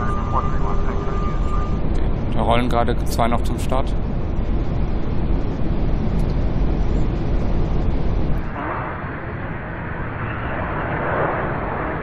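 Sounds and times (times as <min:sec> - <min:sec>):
cockpit engine rumble: 0:00.0 - 0:12.0
jet engines hissing: 0:00.0 - 0:12.0.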